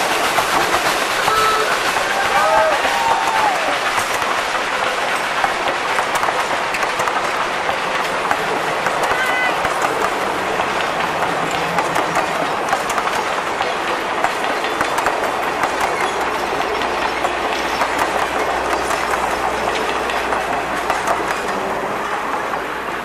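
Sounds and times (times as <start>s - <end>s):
train wheels rumbling on rails: 0.0s - 23.0s
wheels clacking over rail joints: 0.0s - 23.0s.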